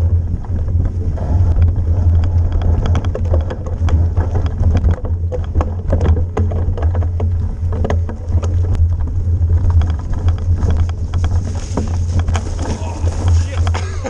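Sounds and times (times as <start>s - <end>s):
bike rattles and knocks: 0.0s - 14.0s
wind rumble on microphone: 0.0s - 14.0s.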